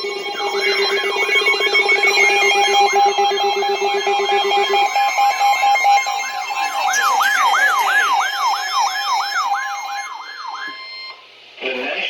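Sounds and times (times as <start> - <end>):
lower pulsing tone: 0.0 - 11.3
pulsing steady beep: 0.0 - 11.3
siren-like warbling alert tone: 0.0 - 11.4.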